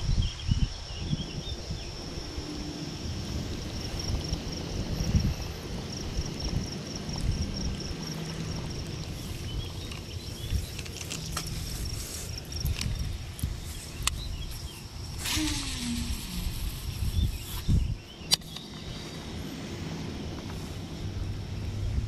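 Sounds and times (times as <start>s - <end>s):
insects trilling: 0.0s - 21.9s
wind rumble on microphone: 0.0s - 22.0s.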